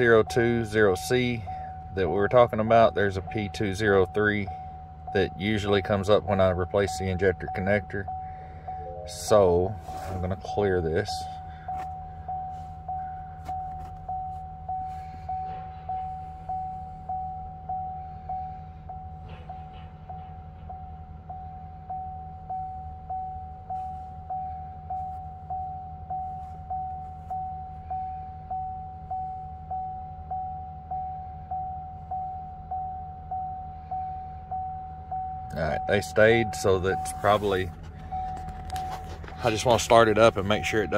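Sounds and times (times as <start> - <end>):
dashboard warning chime dinging: 0.0 - 40.9
steady low hum: 0.0 - 40.9.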